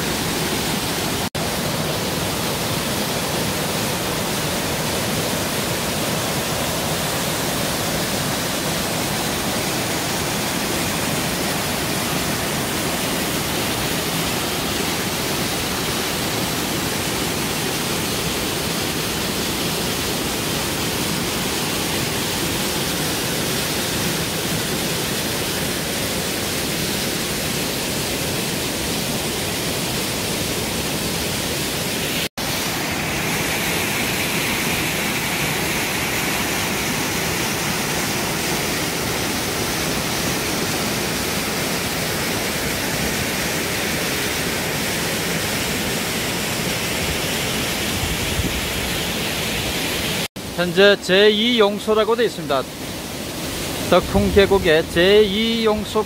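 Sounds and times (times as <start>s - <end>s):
waterfall rushing into pool: 0.0s - 56.0s.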